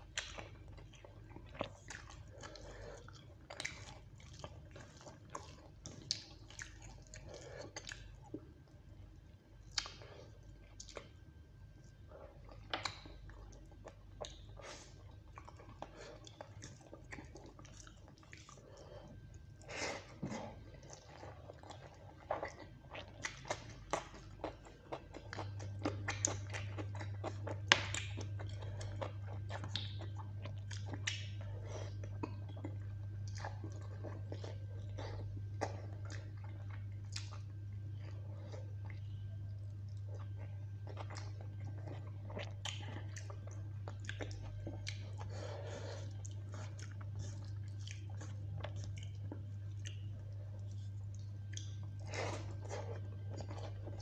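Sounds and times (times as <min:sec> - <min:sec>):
man chewing food: 0:00.0 - 0:54.0
steady low hum: 0:00.0 - 0:54.0.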